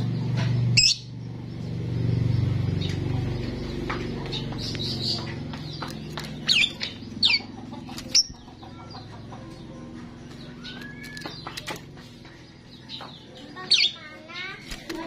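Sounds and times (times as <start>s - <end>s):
starling clicks and chirps: 2.7s - 15.0s.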